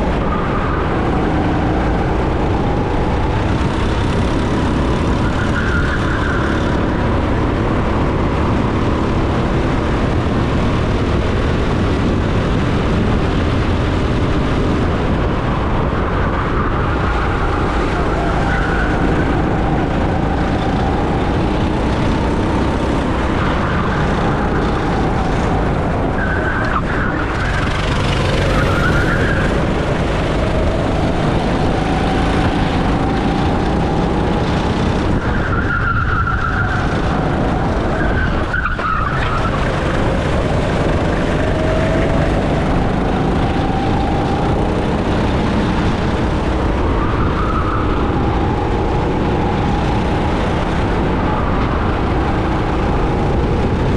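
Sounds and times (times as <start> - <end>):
go-kart engine racing: 0.0 - 53.9.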